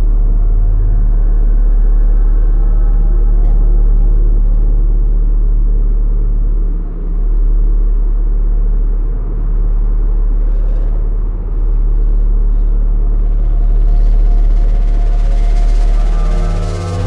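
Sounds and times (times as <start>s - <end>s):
deep ambient drone: 0.0s - 17.0s.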